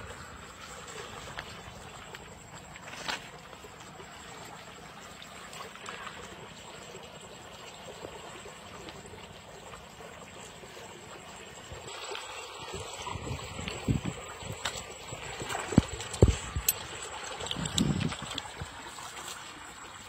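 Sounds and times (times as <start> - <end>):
stream water running and splashing: 0.0 - 20.0.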